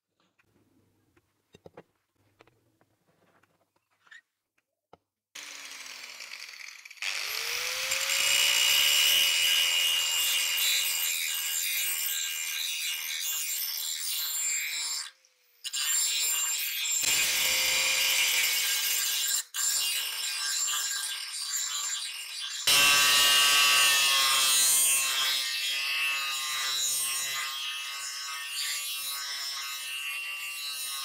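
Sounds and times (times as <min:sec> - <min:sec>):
angle grinder grinding steel: 0:05.4 - 0:31.0.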